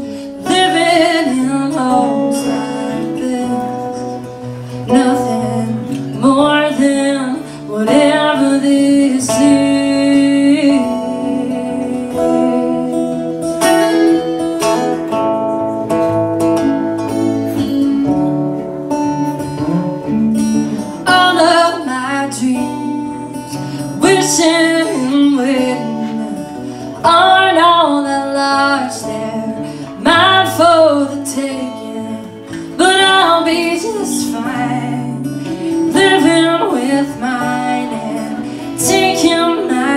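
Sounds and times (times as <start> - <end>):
woman singing: 0.0 - 15.2, 20.0 - 39.9
acoustic guitars playing: 0.0 - 39.9.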